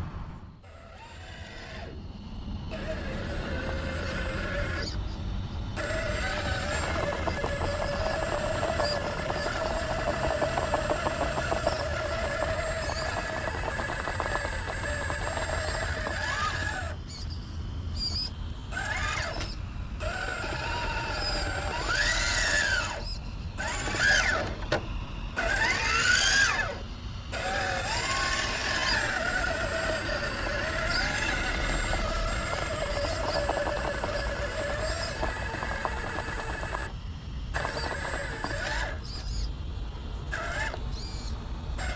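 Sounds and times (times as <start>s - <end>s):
electric motor and gear whine: 0.0s - 41.9s.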